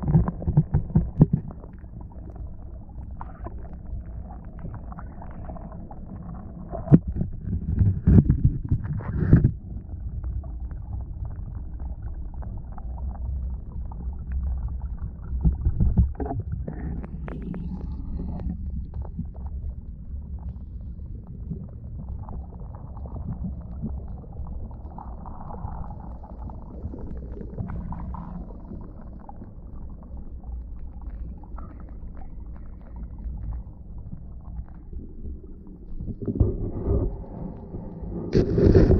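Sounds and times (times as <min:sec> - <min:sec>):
underwater stream rumble: 0:00.0 - 0:38.9.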